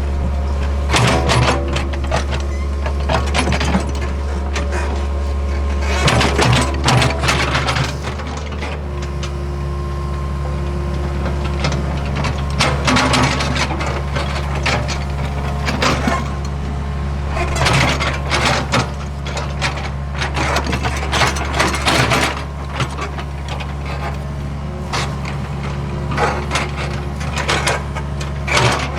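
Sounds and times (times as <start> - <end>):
clattering and scraping: 0.0 - 9.5, 10.9 - 28.9
excavator diesel engine running: 0.0 - 28.9.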